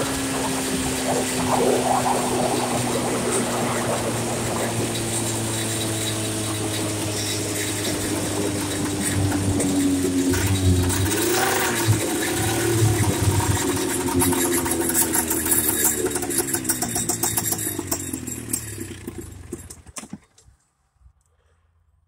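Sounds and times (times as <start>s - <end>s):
golf cart engine running: 0.0s - 20.4s.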